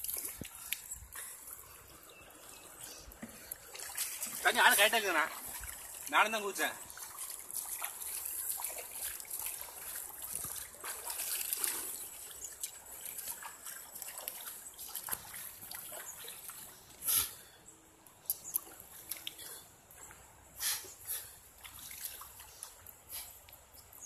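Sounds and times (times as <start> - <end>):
water splashing from swimming: 0.0 - 17.5, 18.3 - 23.4.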